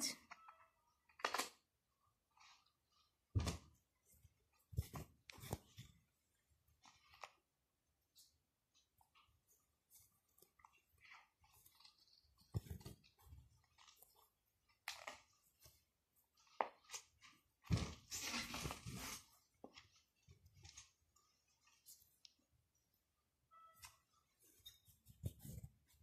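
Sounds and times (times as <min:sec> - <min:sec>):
fabric and thread rustling: 0:01.8 - 0:26.0.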